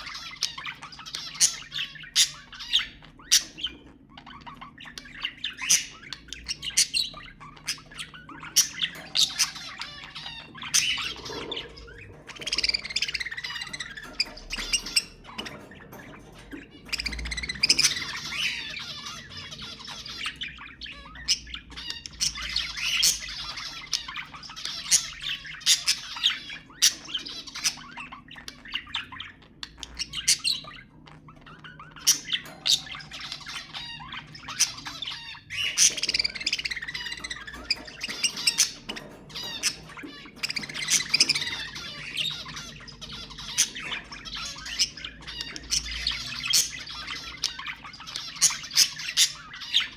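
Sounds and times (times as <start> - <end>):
budgerigars chattering and squawking: 0.0 - 49.9.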